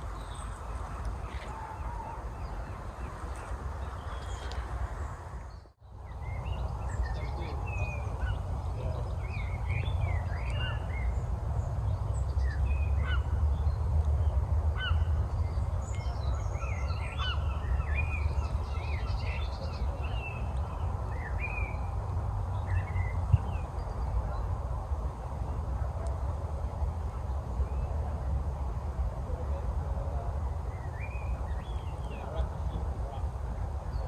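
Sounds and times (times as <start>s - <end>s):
songbirds chirping and whistling: 0.0s - 24.6s, 30.4s - 34.0s.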